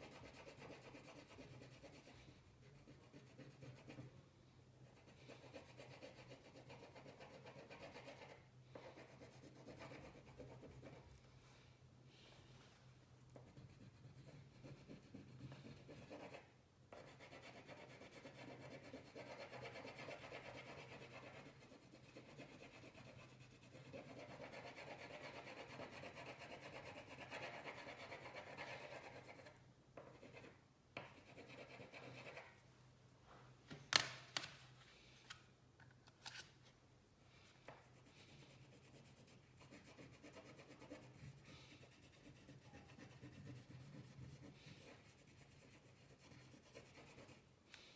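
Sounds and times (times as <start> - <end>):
colouring strokes on paper: 0.0 - 4.1, 4.9 - 11.0, 13.4 - 32.6, 37.8 - 47.5.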